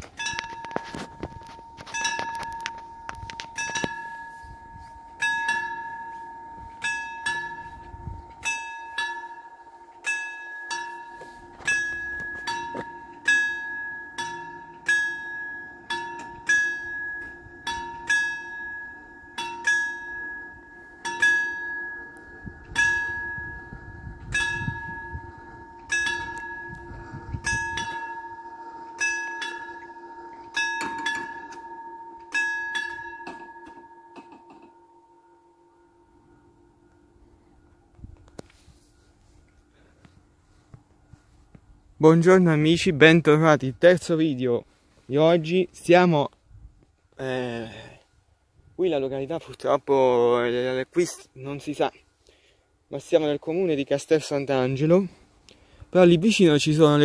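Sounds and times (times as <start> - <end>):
level crossing warning bells: 0.0 - 46.4, 47.0 - 57.0.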